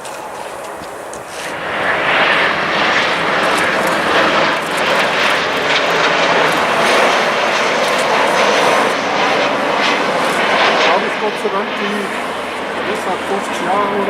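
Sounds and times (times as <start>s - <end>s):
jet airliner passing close: 0.0s - 14.0s.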